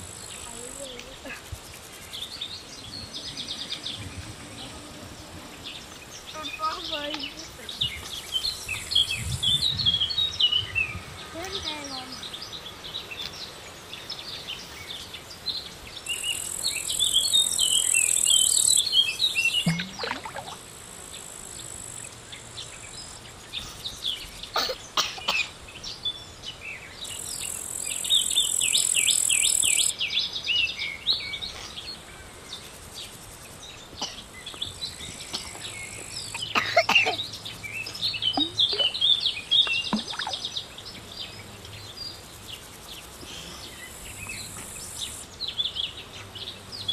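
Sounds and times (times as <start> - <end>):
high insect buzz: 0.0 - 26.3, 27.0 - 29.9, 30.8 - 46.9
birds chirping and twittering: 0.0 - 46.9.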